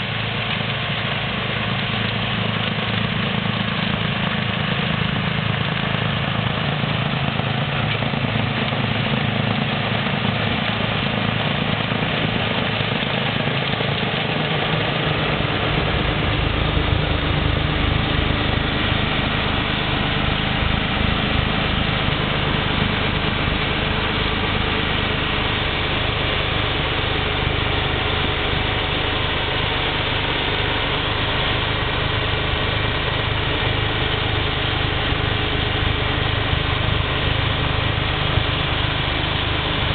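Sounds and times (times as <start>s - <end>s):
diesel tractor engine running: 0.0s - 39.9s
deep low rumble: 5.2s - 39.9s.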